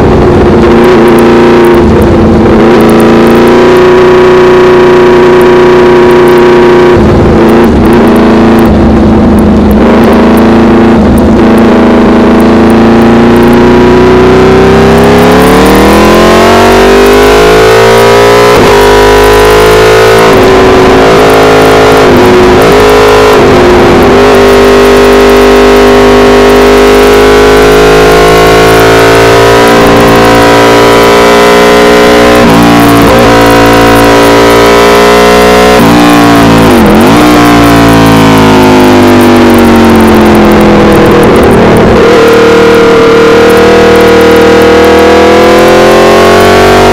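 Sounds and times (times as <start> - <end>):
motorcycle engine at high speed: 0.0 - 46.9.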